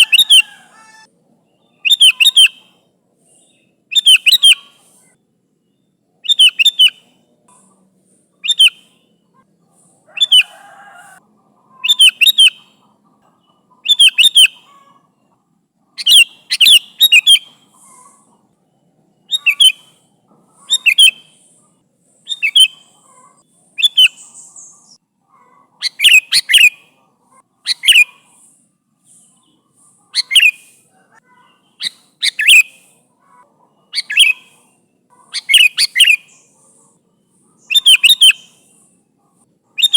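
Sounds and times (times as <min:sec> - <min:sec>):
bird calling chirpy phrases: 0:00.0 - 0:01.1, 0:01.7 - 0:02.8, 0:03.9 - 0:05.2, 0:06.2 - 0:07.2, 0:08.4 - 0:15.2, 0:16.0 - 0:18.6, 0:19.2 - 0:38.9.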